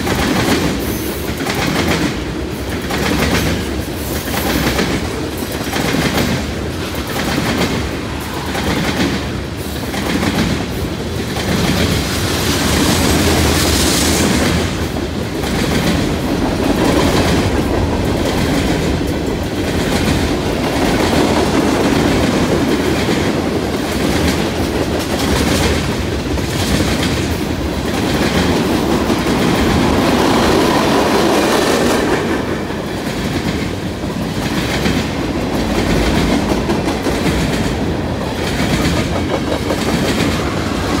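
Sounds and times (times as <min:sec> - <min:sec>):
freight train wheels clickety-clack: 0:00.0 - 0:41.0.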